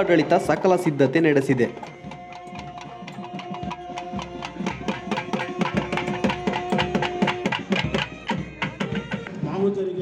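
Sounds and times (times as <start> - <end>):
hand drum strokes: 0.0 - 9.5.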